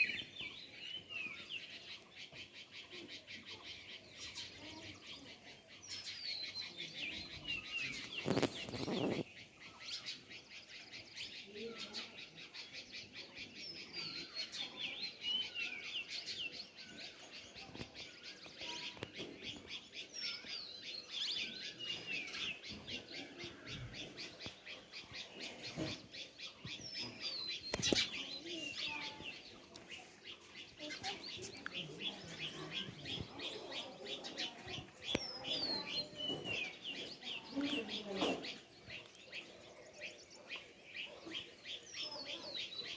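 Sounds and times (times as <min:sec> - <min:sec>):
sparrows chirping: 0:00.0 - 0:42.9.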